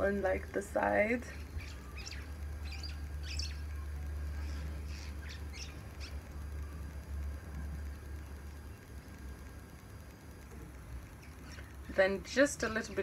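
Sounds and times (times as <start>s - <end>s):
steady low hum: 0.0s - 13.0s
birds chirping: 1.2s - 9.5s, 10.8s - 13.0s.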